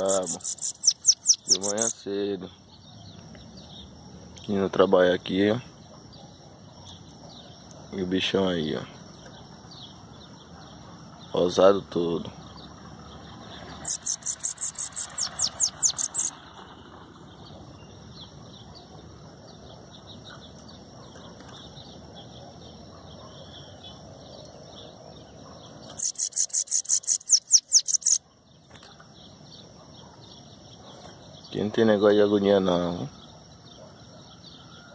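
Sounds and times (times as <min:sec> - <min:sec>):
bird singing high-pitched song: 0:00.0 - 0:34.9.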